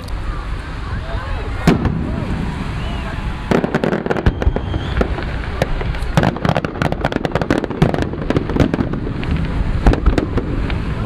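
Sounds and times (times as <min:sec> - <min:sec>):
fireworks bangs and cracks: 0:00.0 - 0:11.0
rumble of bursting shells: 0:01.6 - 0:11.0.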